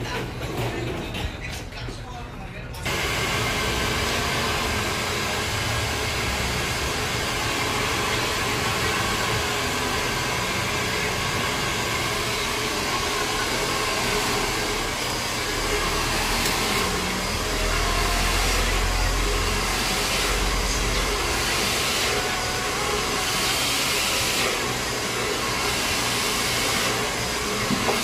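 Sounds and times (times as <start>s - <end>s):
hair dryer blowing: 2.9s - 28.0s.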